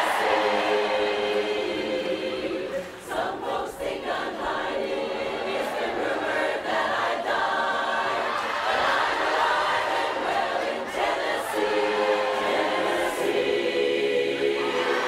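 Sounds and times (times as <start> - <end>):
mixed chorus singing: 0.0 - 15.0.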